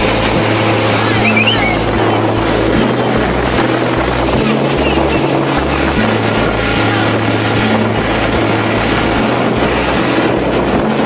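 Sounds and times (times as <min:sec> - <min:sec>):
boat engine humming: 0:00.0 - 0:11.0
water rushing along hull: 0:00.0 - 0:11.0
wind buffeting microphone: 0:00.0 - 0:11.0.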